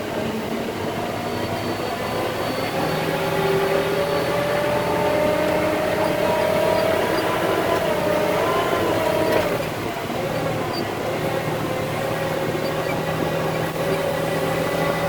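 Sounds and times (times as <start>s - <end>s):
truck diesel engine working hard: 0.0s - 15.0s.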